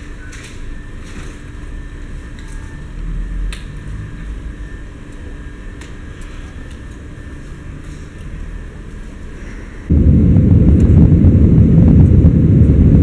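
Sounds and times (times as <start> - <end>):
low rumble and hum: 0.0 - 13.0.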